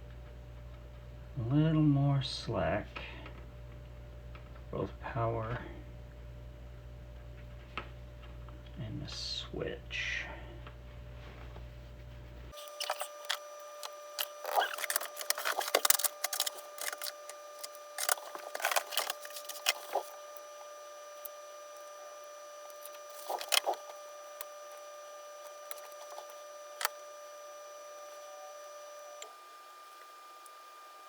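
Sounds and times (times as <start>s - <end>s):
faint steady whine: 0.0s - 31.0s.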